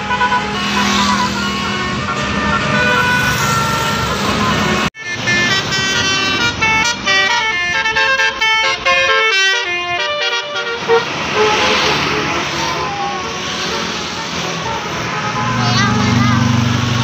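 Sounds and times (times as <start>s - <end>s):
multi-tone musical bus horn: 0.0s - 16.6s.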